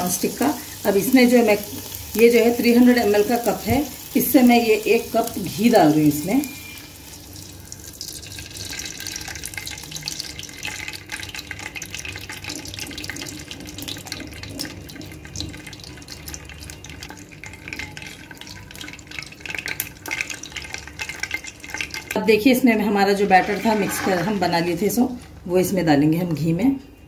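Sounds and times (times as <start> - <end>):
melted fat trickling into a pot: 0.0 - 25.4.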